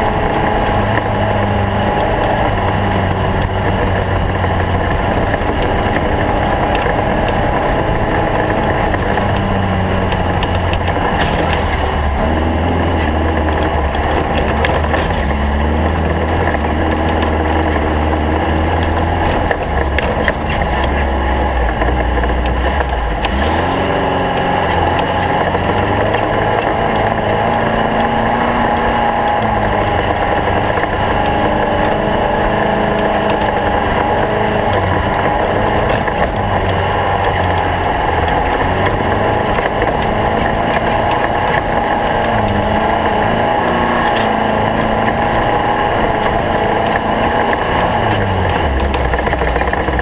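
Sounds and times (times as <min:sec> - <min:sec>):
race car engine revving: 0:00.0 - 0:50.0
wind and road noise: 0:00.0 - 0:50.0.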